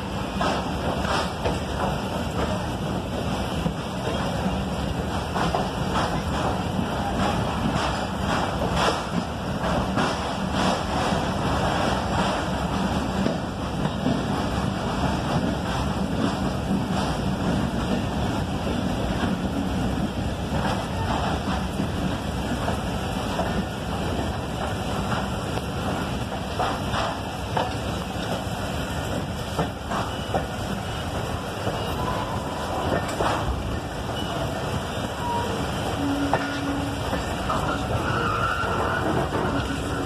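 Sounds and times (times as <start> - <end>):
train running gear rumble: 0.0 - 40.0
wheels clicking over rail joints: 0.0 - 40.0.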